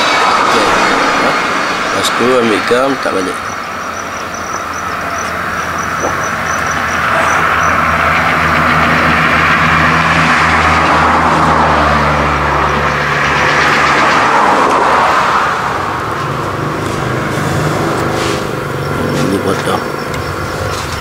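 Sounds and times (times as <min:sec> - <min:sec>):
vehicle engine running: 0:00.4 - 0:21.0.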